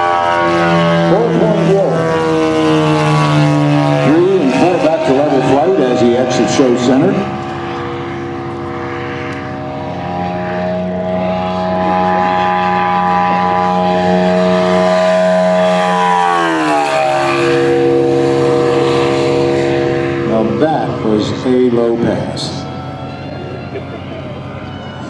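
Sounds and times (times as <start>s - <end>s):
model plane engine droning by: 0.0s - 25.0s.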